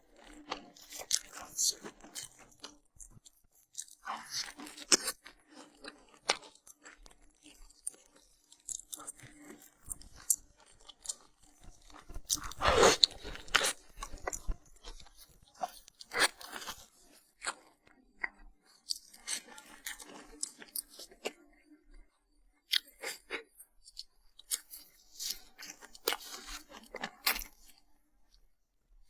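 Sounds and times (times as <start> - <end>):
person chewing crisp food: 0.2 - 17.6, 18.7 - 21.4, 22.7 - 27.8.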